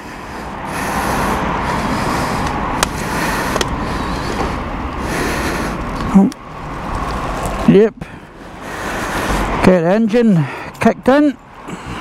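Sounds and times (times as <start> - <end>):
passing street traffic: 0.0 - 12.0.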